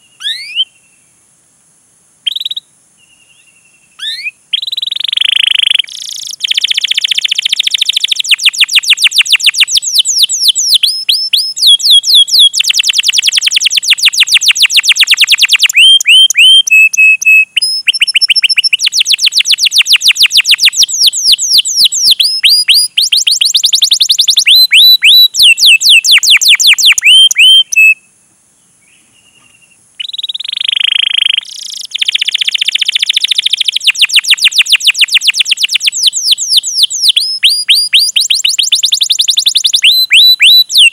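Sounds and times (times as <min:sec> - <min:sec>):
canary singing chirps: 0:00.0 - 0:00.9, 0:02.2 - 0:28.0, 0:28.9 - 0:40.9.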